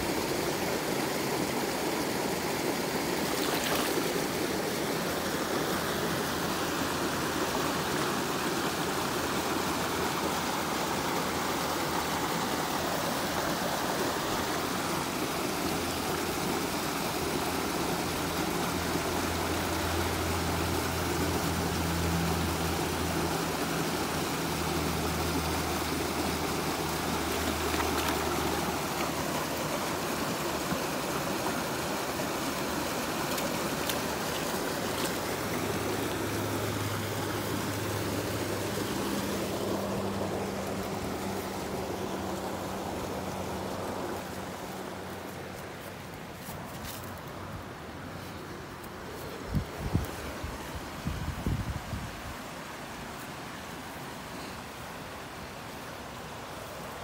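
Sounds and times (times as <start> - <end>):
stream rushing over stones: 0.0 - 57.0.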